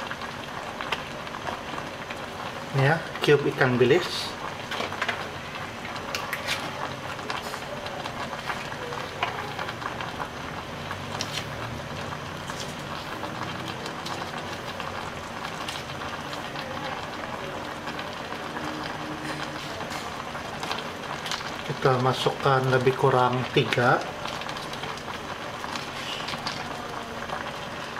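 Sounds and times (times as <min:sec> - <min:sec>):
pot simmering and bubbling: 0:00.0 - 0:27.9.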